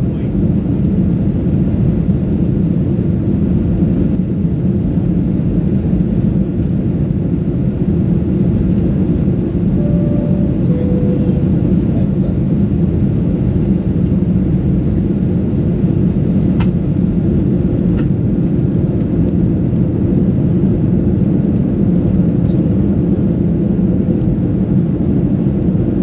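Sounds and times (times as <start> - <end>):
airplane cabin drone: 0.0 - 26.0.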